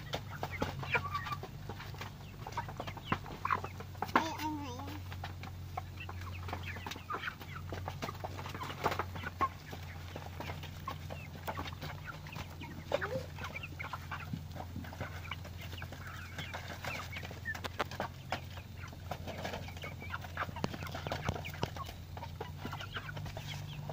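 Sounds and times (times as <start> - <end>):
chickens clucking: 0.0 - 23.9.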